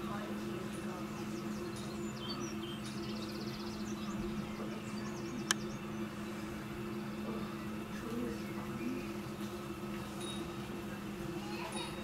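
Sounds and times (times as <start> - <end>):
birds chirping and singing: 0.0 - 12.0
steady low hum: 0.0 - 12.0.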